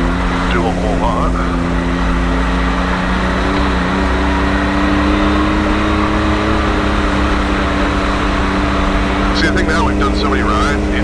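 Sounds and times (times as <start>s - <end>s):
three-cylinder engine running: 0.0s - 11.0s.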